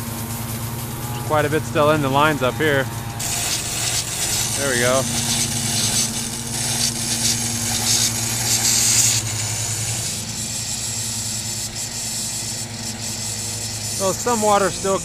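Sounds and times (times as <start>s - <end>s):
compressed air hissing from sprinklers: 0.0s - 15.0s
steady low hum: 0.0s - 15.0s.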